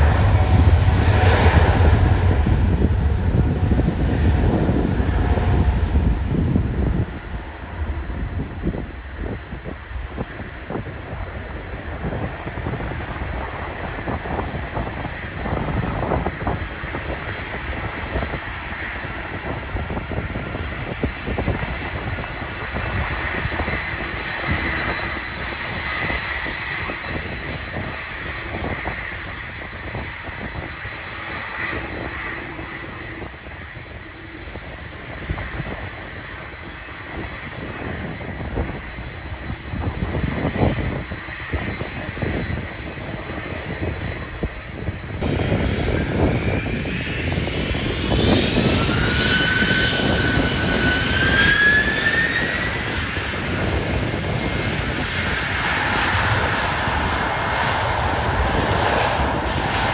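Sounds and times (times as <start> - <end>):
jet engines running: 0.0 - 59.9
wind buffeting microphone: 0.0 - 59.9.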